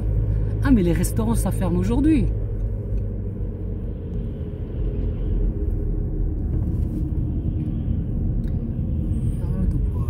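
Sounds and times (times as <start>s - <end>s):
car interior engine and road noise: 0.0s - 10.0s.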